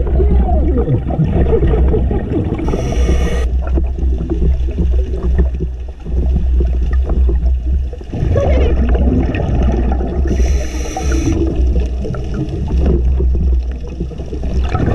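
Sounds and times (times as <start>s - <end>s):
underwater rumble with crackling: 0.0s - 14.9s.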